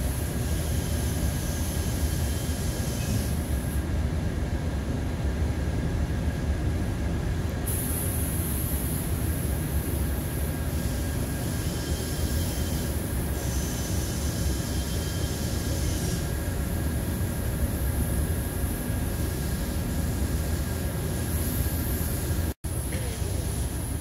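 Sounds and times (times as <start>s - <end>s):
paint spray gun hissing: 0.0s - 3.8s, 7.7s - 24.0s
spray booth air rushing: 0.0s - 3.9s, 7.6s - 24.0s.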